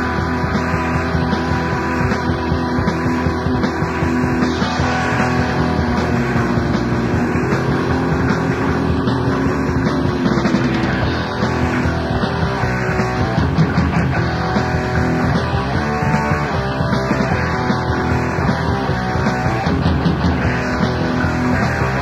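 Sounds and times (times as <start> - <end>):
drums: 0.0 - 22.0
electric guitar: 0.0 - 22.0
hardcore punk band playing: 0.0 - 22.0.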